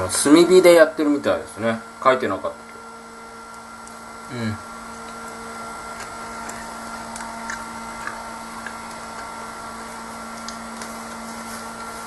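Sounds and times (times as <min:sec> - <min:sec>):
electric fan whirring: 0:00.0 - 0:12.0.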